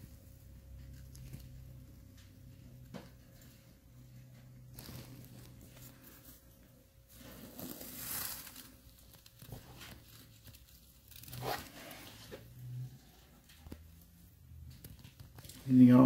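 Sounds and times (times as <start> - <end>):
bedding rustling and crinkling: 0.0 - 16.0.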